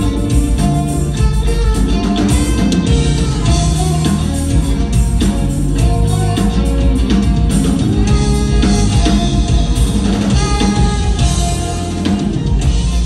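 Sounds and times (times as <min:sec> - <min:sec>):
drum kit: 0:00.0 - 0:13.0
live band playing: 0:00.0 - 0:13.0.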